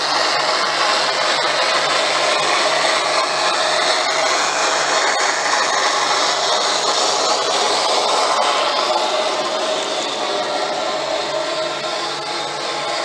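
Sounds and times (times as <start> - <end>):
model train rushing noise: 0.0 - 13.0
wheels rolling on track: 0.0 - 13.0.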